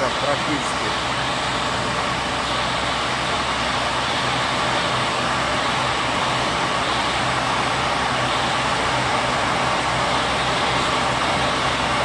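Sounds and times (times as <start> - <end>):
circular saw machine running: 0.0 - 12.0.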